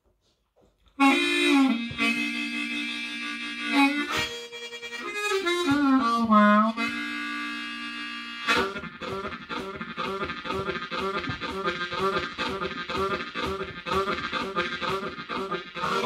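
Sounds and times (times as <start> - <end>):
blues harmonica: 1.0 - 16.0.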